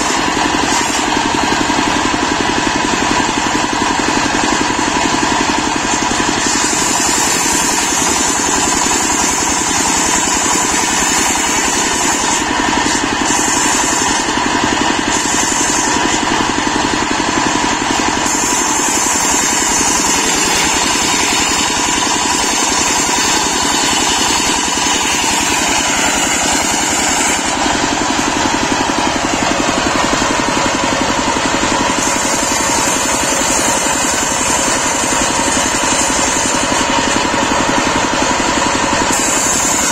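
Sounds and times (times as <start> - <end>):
circular saw cutting log: 0.0 - 39.9
diesel engine running under load: 0.0 - 39.9.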